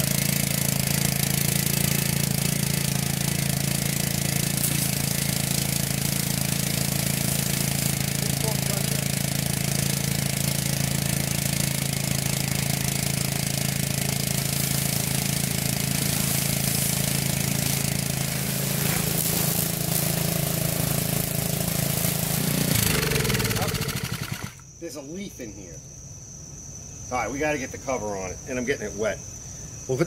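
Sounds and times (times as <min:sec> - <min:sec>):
hiss: 0:00.0 - 0:24.7
small engine running: 0:00.0 - 0:24.7.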